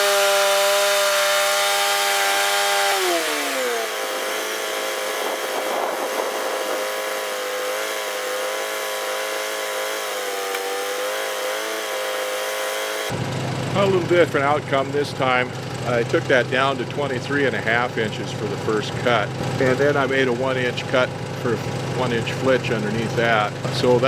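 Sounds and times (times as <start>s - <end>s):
gas engine running: 0.0s - 24.0s.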